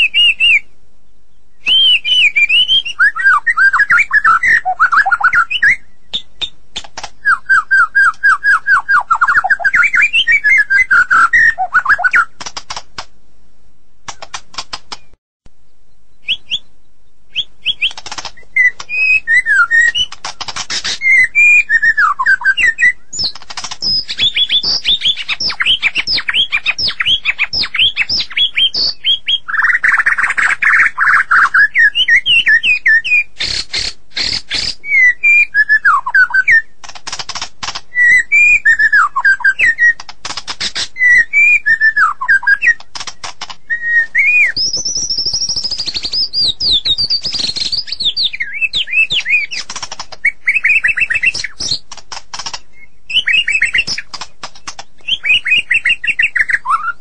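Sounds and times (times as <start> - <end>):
songbird whistling phrases: 0.0 - 0.7, 1.4 - 6.6, 7.2 - 12.4, 16.2 - 20.2, 20.8 - 36.7, 37.9 - 40.1, 40.7 - 42.9, 43.6 - 51.8, 52.7 - 54.1, 55.0 - 57.0
bird sharp clicking notes: 1.7 - 13.1, 14.0 - 15.2, 17.3 - 34.8, 36.0 - 57.0.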